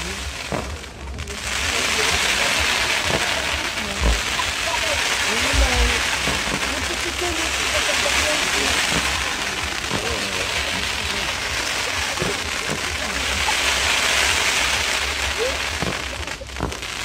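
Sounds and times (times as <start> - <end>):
fireworks hissing and crackling: 0.0 - 17.0.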